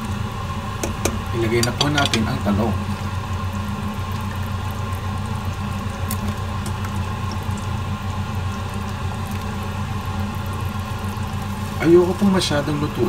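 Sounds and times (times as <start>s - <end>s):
broth simmering: 0.0s - 13.0s
steady low hum: 0.0s - 13.0s.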